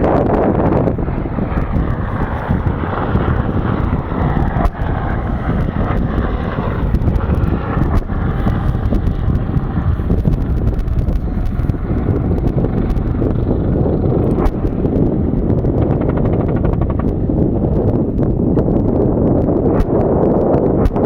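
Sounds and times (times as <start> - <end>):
helicopter rotor and engine: 0.0 - 19.2
wind buffeting microphone: 0.0 - 21.0.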